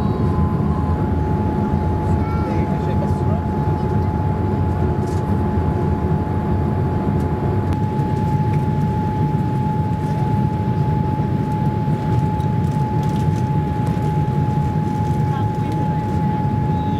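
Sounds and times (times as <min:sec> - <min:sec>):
airplane cabin engine rumble: 0:00.0 - 0:16.9.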